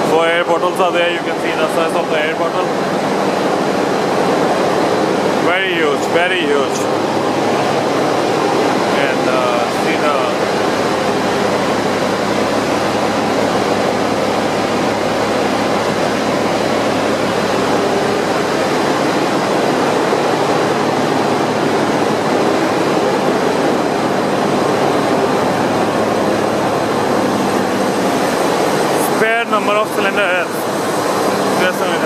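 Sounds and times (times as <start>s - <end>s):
engine room machinery din: 0.0s - 32.0s
low machinery hums: 0.0s - 32.0s.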